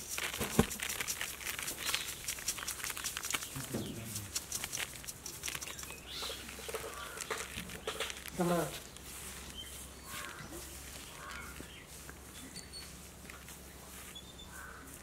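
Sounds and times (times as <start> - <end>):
insects rustling on bamboo tray: 0.0 - 15.0.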